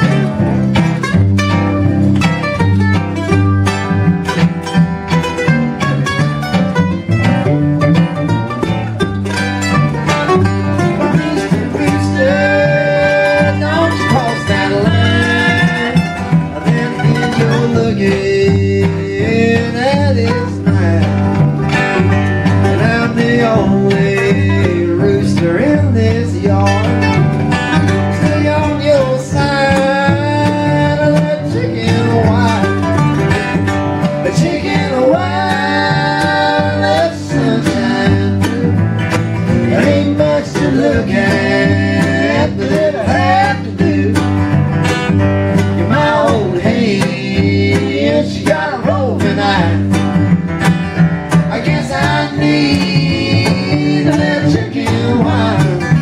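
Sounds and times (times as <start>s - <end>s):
mandolin: 0.0s - 56.0s
strummed steel-string guitar: 0.0s - 56.0s.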